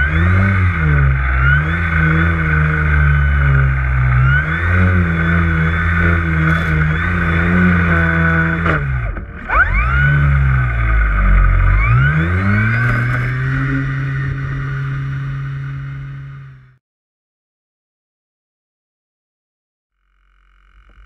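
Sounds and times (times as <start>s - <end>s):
model plane electric motor whining: 0.0s - 16.7s, 20.1s - 21.0s.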